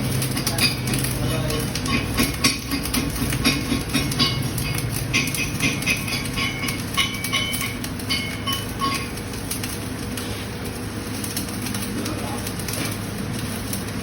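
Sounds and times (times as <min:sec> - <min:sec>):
welding arc crackling: 0:00.0 - 0:14.0
welding pops: 0:00.0 - 0:14.0.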